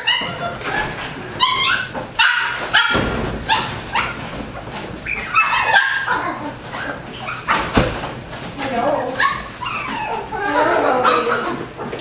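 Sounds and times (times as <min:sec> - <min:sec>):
dogs barking and yipping: 0:00.0 - 0:08.0, 0:08.6 - 0:12.0.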